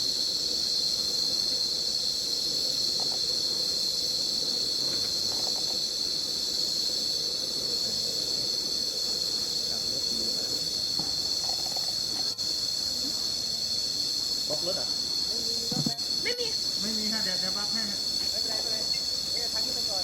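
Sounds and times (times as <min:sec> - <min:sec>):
insect chorus buzzing: 0:00.0 - 0:20.0.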